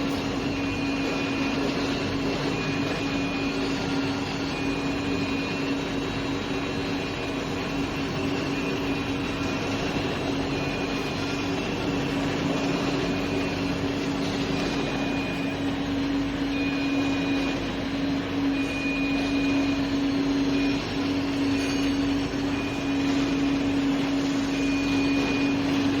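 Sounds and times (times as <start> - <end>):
industrial machinery droning: 0.0 - 26.0.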